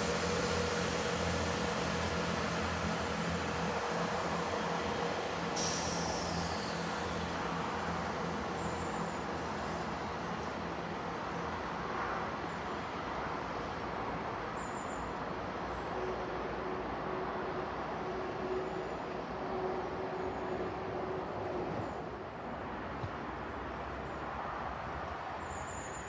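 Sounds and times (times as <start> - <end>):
train rumbling: 0.0 - 14.5, 15.3 - 26.0.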